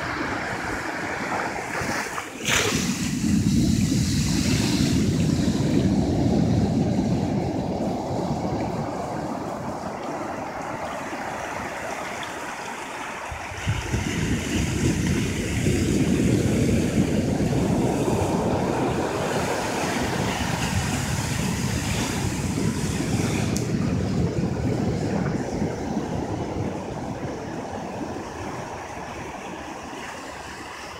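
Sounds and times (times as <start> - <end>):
ocean surf on beach: 0.0 - 30.9
wind buffeting microphone: 0.0 - 30.9.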